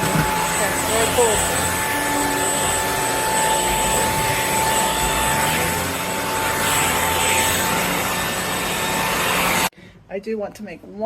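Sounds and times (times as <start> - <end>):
vacuum cleaner running on carpet: 0.0 - 9.7.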